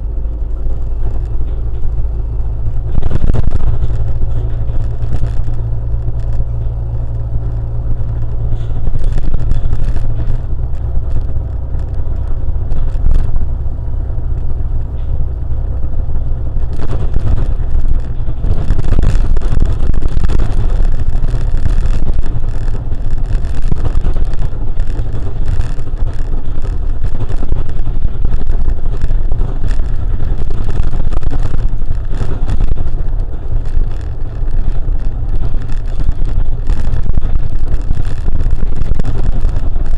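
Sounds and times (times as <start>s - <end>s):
car engine and road noise: 0.0s - 39.9s
tyre and wind rushing: 0.0s - 39.9s.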